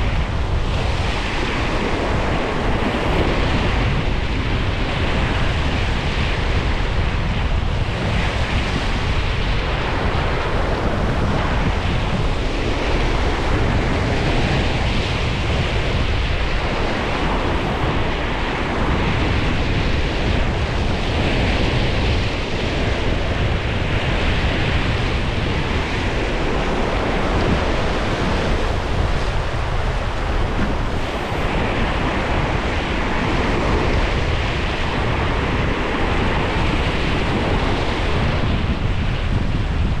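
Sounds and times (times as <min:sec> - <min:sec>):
waves washing: 0:00.0 - 0:40.0
wind buffeting microphone: 0:00.0 - 0:40.0.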